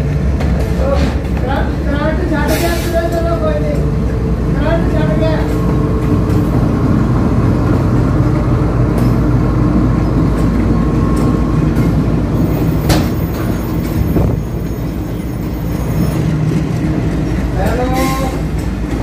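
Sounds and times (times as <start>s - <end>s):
diesel locomotive engine hum: 0.0s - 19.0s.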